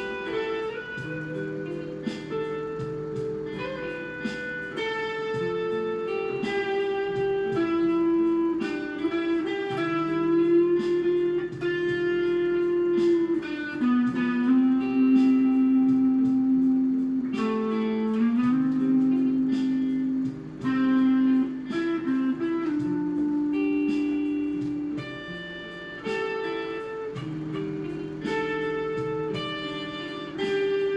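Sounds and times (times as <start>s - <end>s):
guitar playing: 0.0s - 30.9s.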